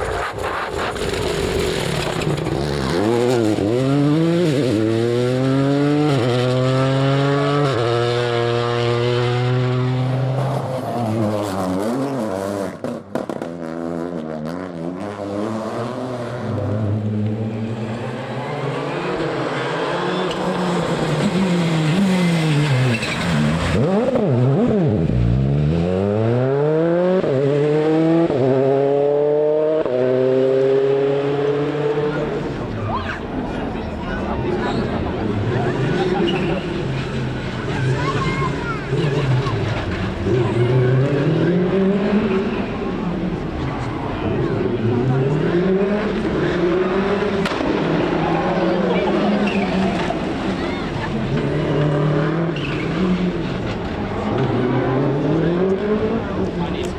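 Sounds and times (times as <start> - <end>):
rally car engines revving: 0.0 - 56.9.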